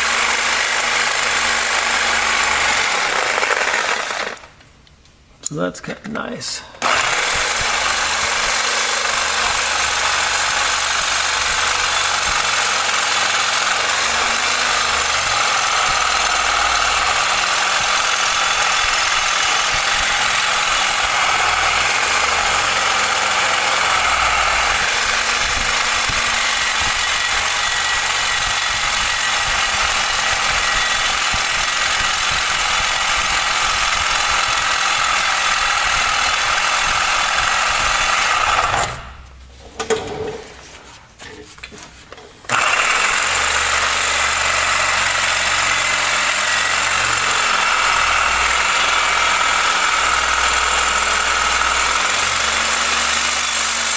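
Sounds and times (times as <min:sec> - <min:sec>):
reciprocating saw cutting steel: 0:06.8 - 0:39.2, 0:42.5 - 0:53.9.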